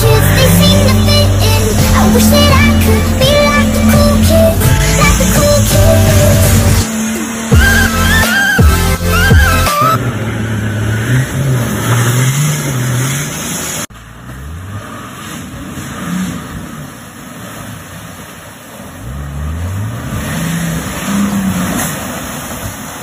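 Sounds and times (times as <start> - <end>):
off-road engines revving: 0.0 - 23.0.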